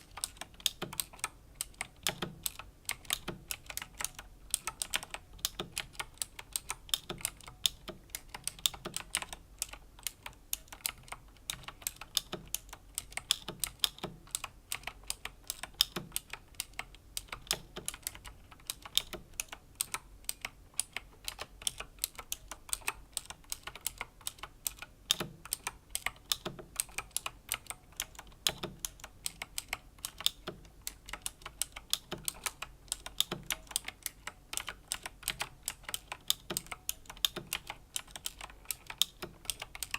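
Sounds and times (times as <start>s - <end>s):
mechanical keyboard key clicks: 0.0s - 39.9s.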